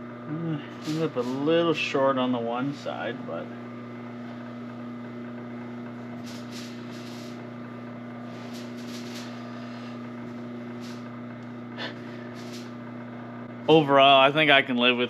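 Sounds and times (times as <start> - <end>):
steady electric hum: 0.0 - 15.0.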